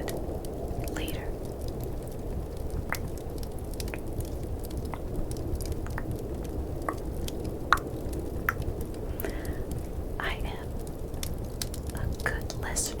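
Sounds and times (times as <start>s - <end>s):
fireplace crackles: 0.0s - 13.0s
low rumble of snowstorm: 0.0s - 13.0s.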